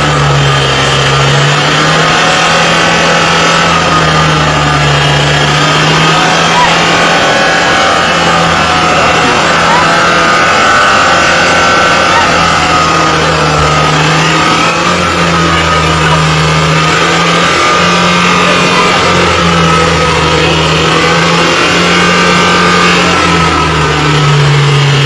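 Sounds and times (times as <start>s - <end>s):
diesel engine racing: 0.0s - 25.0s.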